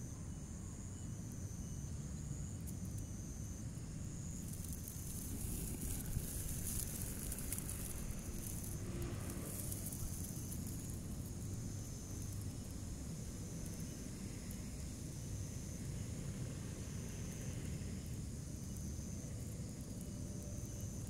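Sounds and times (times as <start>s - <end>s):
insects chirping: 0.0s - 21.0s
crackling hiss: 2.3s - 21.0s.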